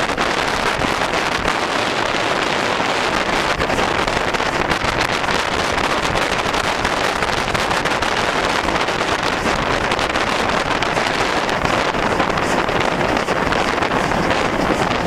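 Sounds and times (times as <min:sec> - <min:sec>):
steam locomotive running: 0:00.0 - 0:15.0
wind buffeting microphone: 0:00.0 - 0:15.0.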